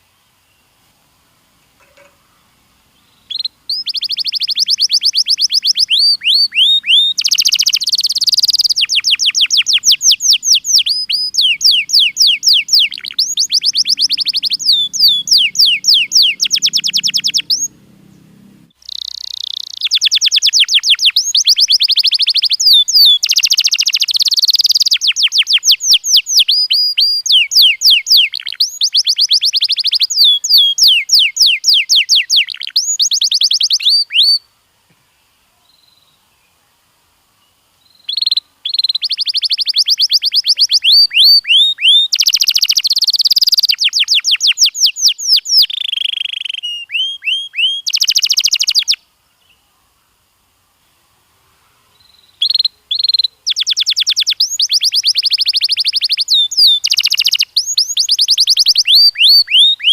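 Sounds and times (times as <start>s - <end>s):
canary singing trills: 1.8s - 34.5s, 37.8s - 49.6s, 51.9s - 59.9s.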